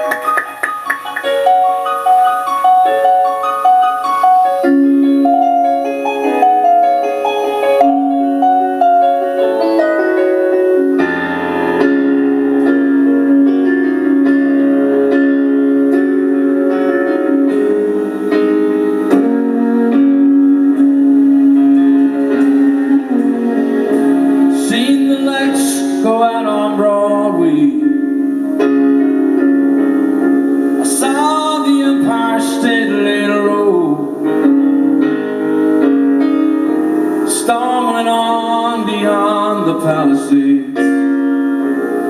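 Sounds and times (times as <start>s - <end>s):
piano playing: 0.0s - 42.0s.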